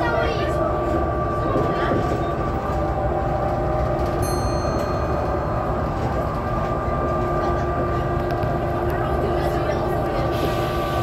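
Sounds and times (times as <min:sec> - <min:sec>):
bus engine and road drone: 0:00.0 - 0:11.0.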